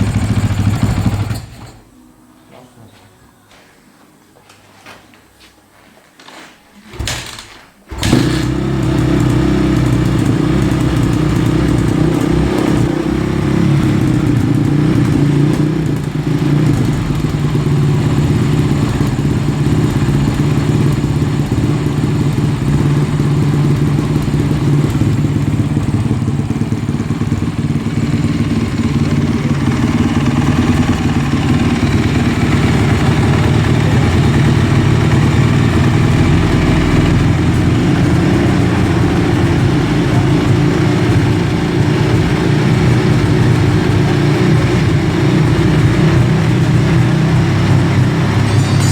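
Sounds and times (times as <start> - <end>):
motorcycle engine idling: 0.0 - 1.8, 7.9 - 48.9.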